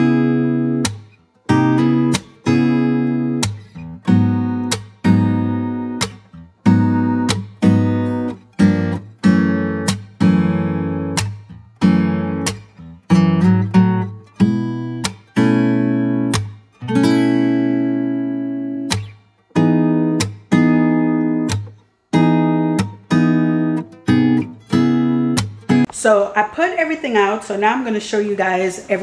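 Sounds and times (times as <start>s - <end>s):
acoustic guitar chords strummed: 0.0s - 25.9s.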